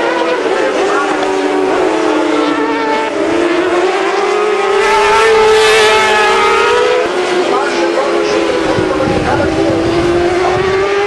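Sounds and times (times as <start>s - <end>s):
sport bike engines at high revs: 0.0s - 11.0s.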